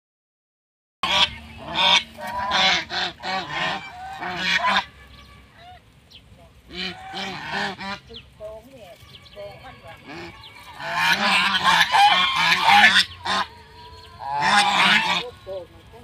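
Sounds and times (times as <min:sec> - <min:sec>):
geese honking: 0:01.0 - 0:16.0.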